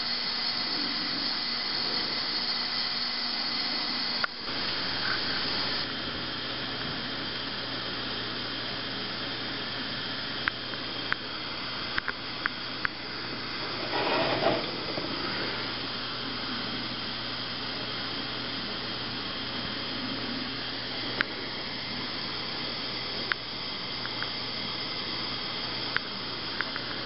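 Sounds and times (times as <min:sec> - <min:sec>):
mantle lamp hissing: 0:00.0 - 0:27.0.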